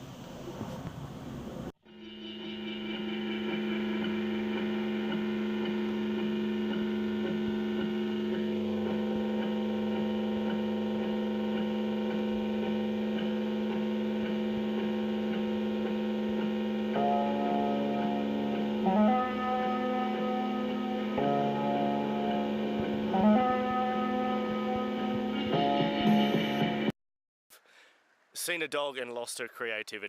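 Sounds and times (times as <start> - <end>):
droning hum of held tones: 1.3 - 26.9.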